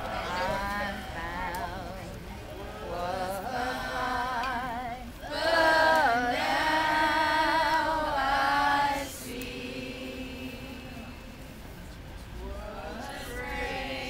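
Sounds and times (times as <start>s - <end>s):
choir singing a cappella: 0.0s - 11.6s, 12.4s - 14.0s.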